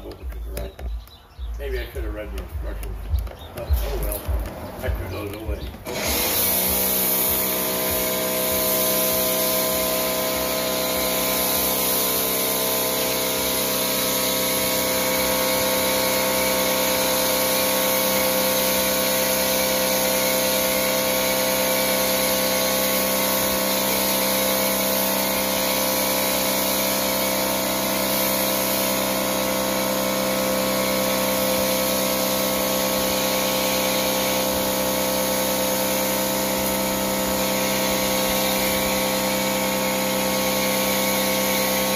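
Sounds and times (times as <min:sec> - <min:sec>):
pressure washer motor humming: 0:00.0 - 0:41.9
foam cannon spraying hiss: 0:05.8 - 0:41.9.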